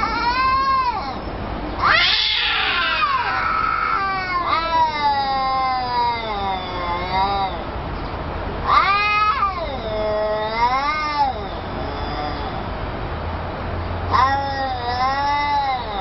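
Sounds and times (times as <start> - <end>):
cats yowling: 0.0 - 7.8, 8.6 - 12.8, 14.1 - 16.0.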